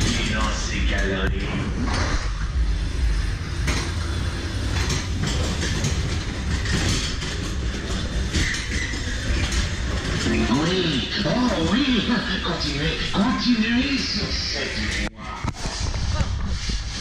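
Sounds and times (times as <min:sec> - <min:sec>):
ride car rumbling on track: 0:00.0 - 0:17.0.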